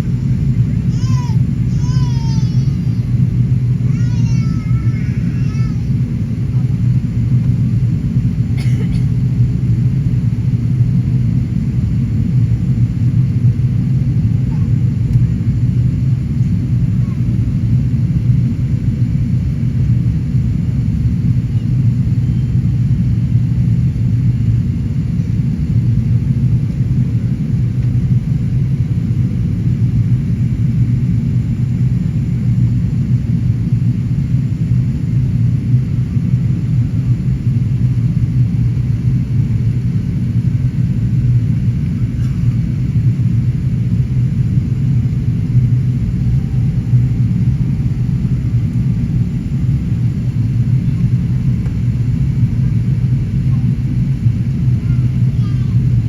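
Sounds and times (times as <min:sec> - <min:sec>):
airliner rumbling: 0:00.0 - 0:56.0.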